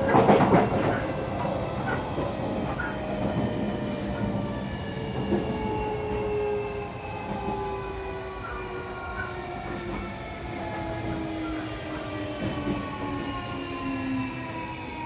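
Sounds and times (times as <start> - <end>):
electric train inverter whine: 0.0 - 15.0
wheel and rail rumble: 0.0 - 15.0.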